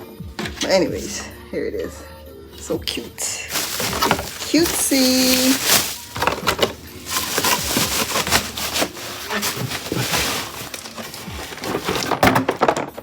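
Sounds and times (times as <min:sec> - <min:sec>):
plastic packaging rustling: 0:00.4 - 0:01.3, 0:02.6 - 0:13.0.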